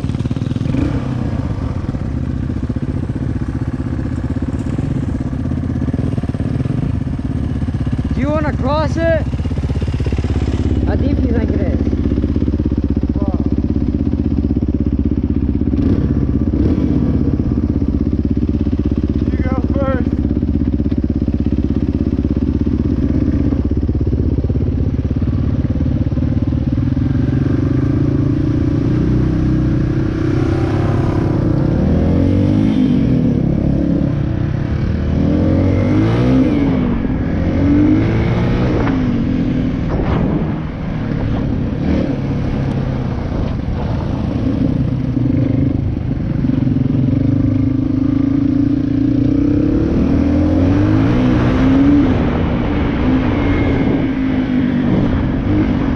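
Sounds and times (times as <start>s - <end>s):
dirt bike engine revving: 0.0s - 2.1s, 2.7s - 24.0s, 24.6s - 55.9s.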